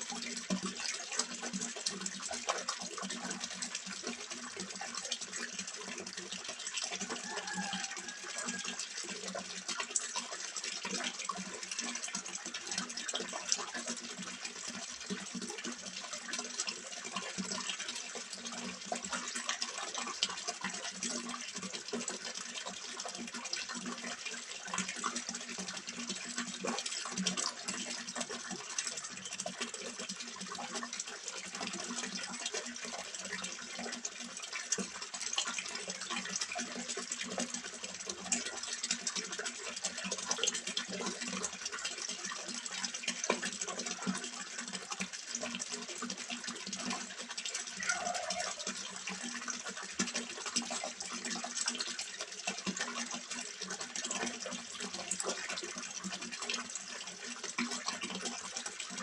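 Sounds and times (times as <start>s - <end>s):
water splashing into pond: 0.0s - 59.0s.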